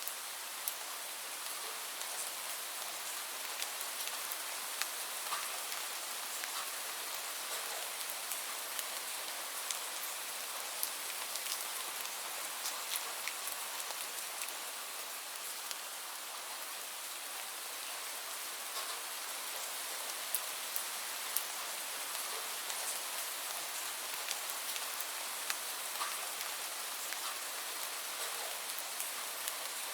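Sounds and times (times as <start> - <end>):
steady rainfall: 0.0 - 29.9.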